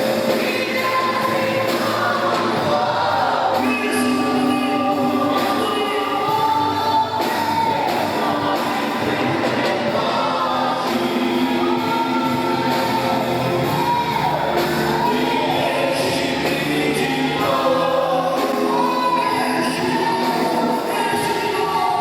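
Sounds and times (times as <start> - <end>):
voices singing gospel song: 0.0 - 22.0.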